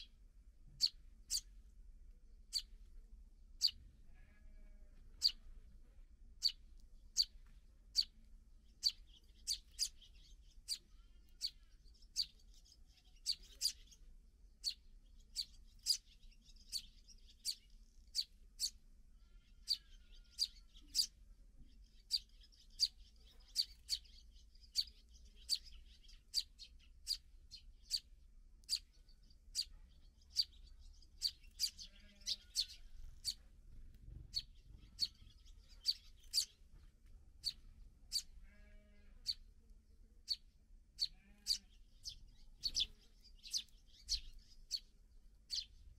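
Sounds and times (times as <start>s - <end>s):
sparrows chirping: 0.0s - 45.9s
soft bird twittering: 0.7s - 1.6s, 3.6s - 5.5s, 6.4s - 39.5s, 40.2s - 45.9s.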